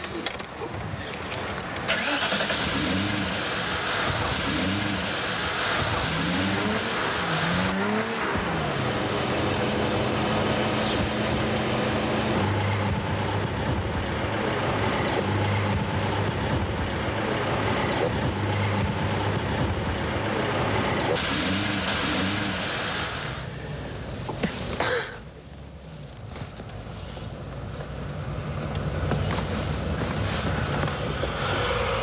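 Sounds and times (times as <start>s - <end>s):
car running heard from cabin: 1.9s - 32.0s.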